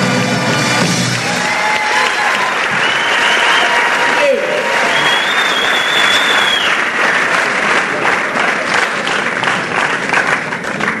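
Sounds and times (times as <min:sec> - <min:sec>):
audience applauding: 0:01.0 - 0:11.0.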